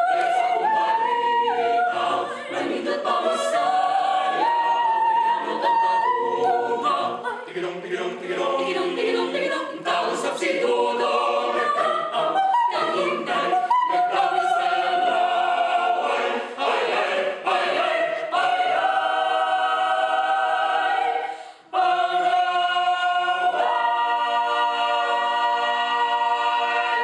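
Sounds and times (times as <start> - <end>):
choir singing a cappella: 0.0 - 27.0.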